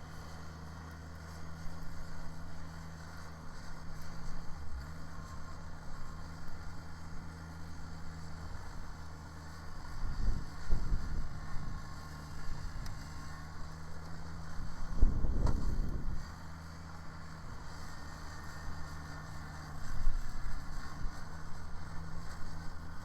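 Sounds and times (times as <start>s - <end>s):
tractor diesel engine humming: 0.0s - 23.0s.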